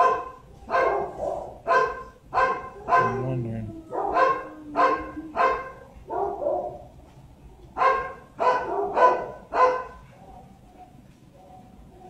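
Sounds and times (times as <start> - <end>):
dog barking: 0.0 - 7.0, 7.8 - 12.0.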